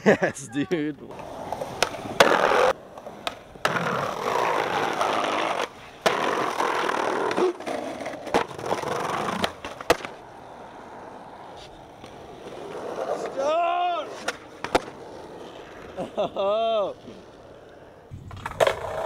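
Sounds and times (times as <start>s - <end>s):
skateboard grinding on concrete: 1.0s - 19.0s
skateboard clacks: 1.1s - 16.0s, 17.0s - 19.0s.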